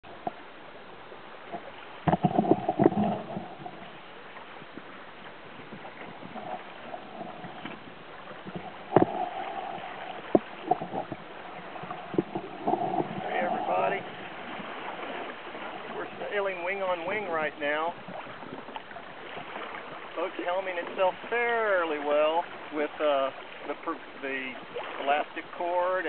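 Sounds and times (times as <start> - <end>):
water splashing along a hull: 0.0 - 26.0
boat knocks: 1.4 - 26.0.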